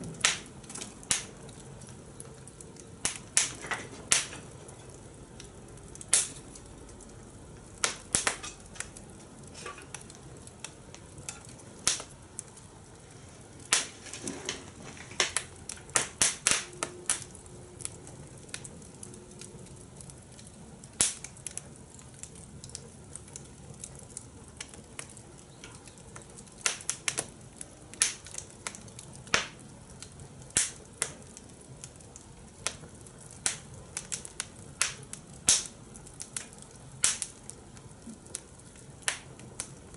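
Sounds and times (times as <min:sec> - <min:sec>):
fire crackling and popping: 0:00.0 - 0:39.9
low steady hiss: 0:00.0 - 0:39.9.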